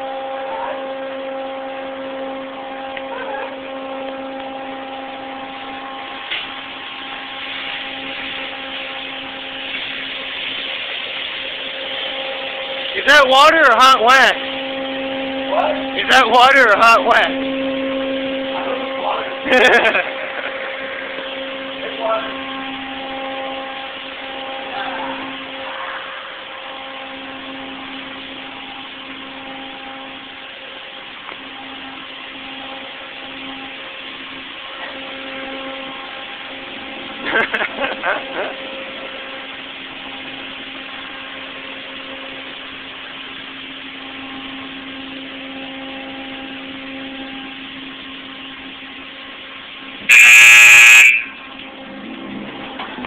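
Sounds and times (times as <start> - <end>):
car wash motors whining: 0.0 - 53.0
loud buzzing tone: 0.0 - 53.0
rushing noise: 0.0 - 53.0
spraying water and spinning brushes: 0.0 - 53.0.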